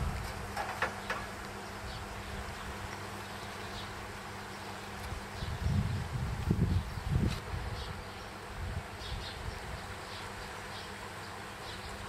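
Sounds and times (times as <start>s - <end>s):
low buzzing hum: 0.0s - 12.0s.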